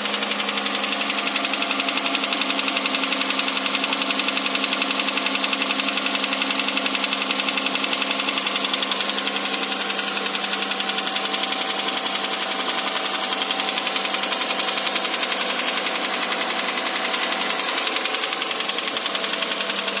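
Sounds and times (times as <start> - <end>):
car engine knocking: 0.0 - 20.0.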